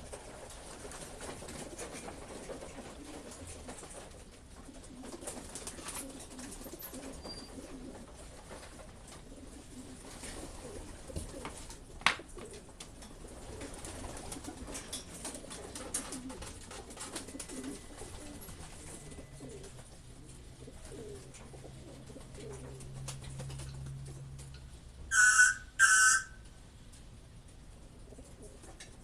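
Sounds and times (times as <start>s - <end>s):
pigeons cooing: 1.4s - 24.5s, 25.1s - 26.5s, 27.8s - 29.0s.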